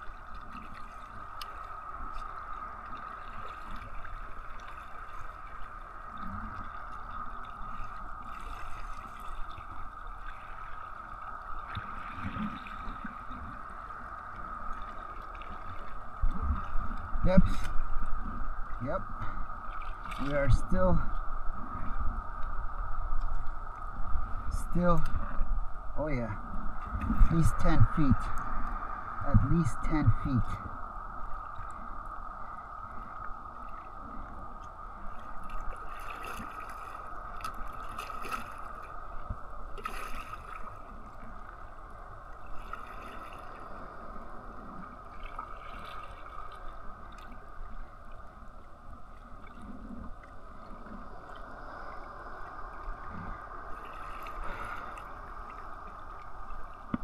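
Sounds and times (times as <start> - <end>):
water lapping against a kayak: 0.0 - 57.0
water splashes: 0.0 - 57.0.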